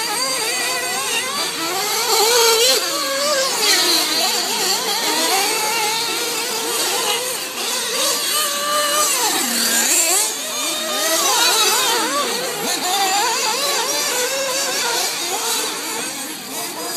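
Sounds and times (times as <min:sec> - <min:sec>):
rc car engines racing: 0:00.0 - 0:16.9.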